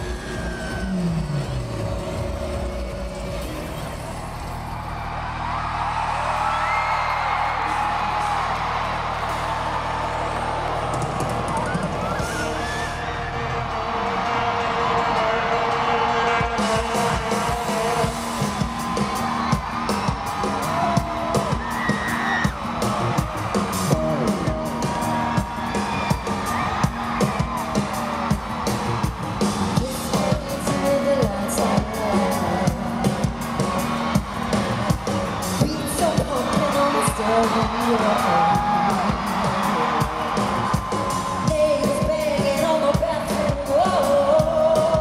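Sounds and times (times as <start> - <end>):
crowd whooping and screaming: 0.0 - 45.0
loud pop music: 0.0 - 45.0.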